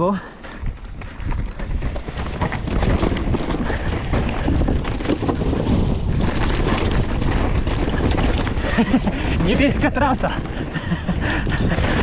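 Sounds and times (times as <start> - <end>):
bike knocks and rattles: 0.4 - 12.0
wind rushing over microphone: 0.4 - 12.0.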